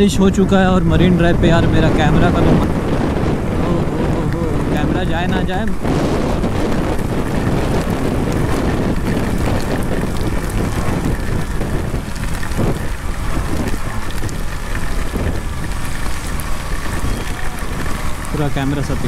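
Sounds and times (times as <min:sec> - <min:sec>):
motorcycle engine: 0:00.0 - 0:19.0
wind buffeting microphone: 0:00.0 - 0:19.0
rain spray: 0:01.8 - 0:19.0.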